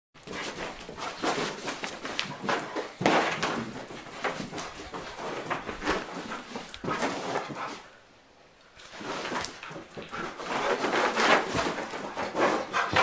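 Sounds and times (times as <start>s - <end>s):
running footfalls and scuffling: 0.2s - 7.8s, 8.8s - 13.0s.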